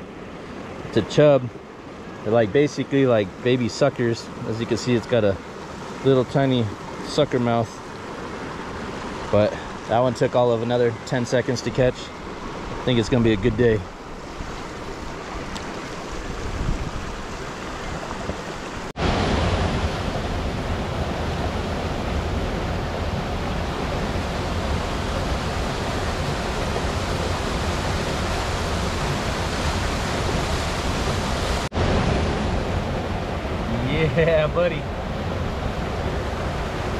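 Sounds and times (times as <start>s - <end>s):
creek water rushing: 0.0s - 36.9s.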